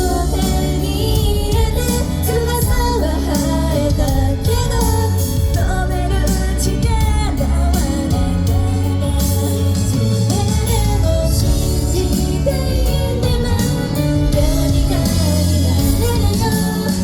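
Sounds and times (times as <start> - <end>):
pop song backing track: 0.0 - 17.0
woman singing: 0.0 - 17.0.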